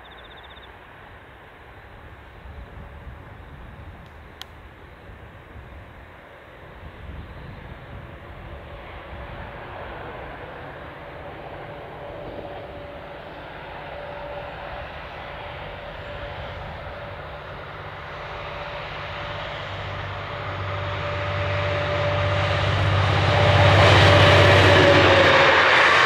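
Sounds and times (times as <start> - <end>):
constant whine: 0.0 - 26.0
locomotive engine drone: 0.0 - 26.0
wheels rumbling on rail: 0.0 - 26.0.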